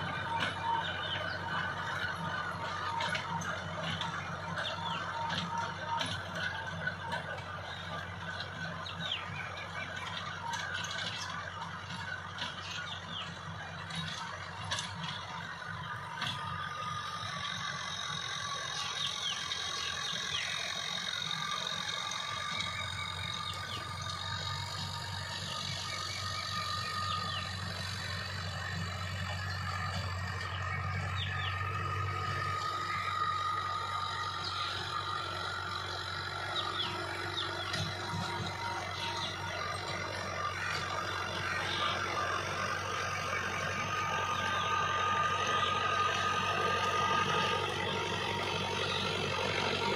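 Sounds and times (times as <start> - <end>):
diesel tractor engine under load: 0.0 - 49.9
tiller clattering rattle: 0.0 - 49.9.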